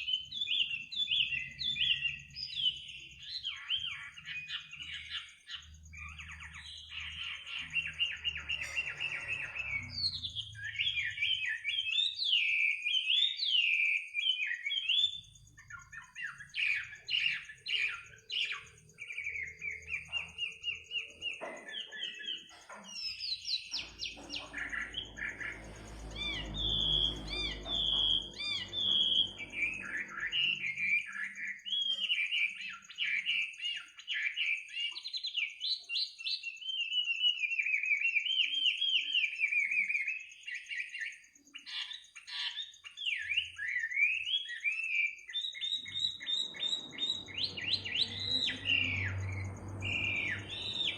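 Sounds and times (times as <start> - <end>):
songbird singing: 0.0 - 50.9.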